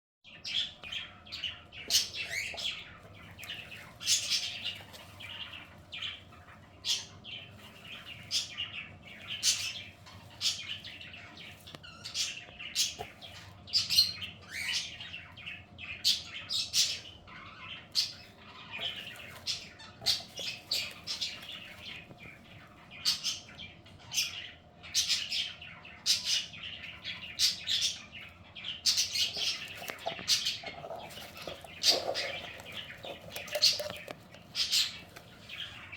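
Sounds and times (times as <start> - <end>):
birds chirping and squawking: 0.3 - 35.9.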